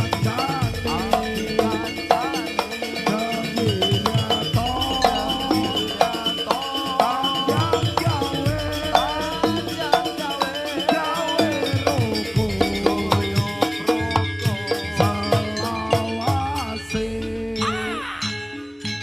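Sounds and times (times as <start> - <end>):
drums and mallet percussion: 0.0 - 19.0.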